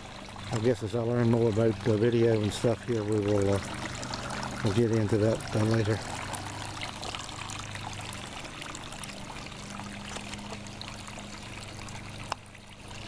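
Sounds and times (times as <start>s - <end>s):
fountain water trickling: 0.0s - 13.0s.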